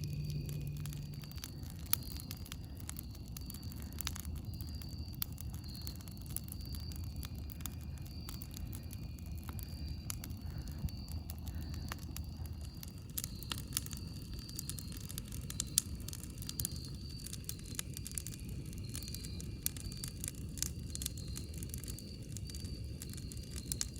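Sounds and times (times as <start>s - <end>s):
steady low rumble: 0.0s - 21.0s
campfire crackling and popping: 0.0s - 23.9s
faint high chirping: 0.0s - 23.9s.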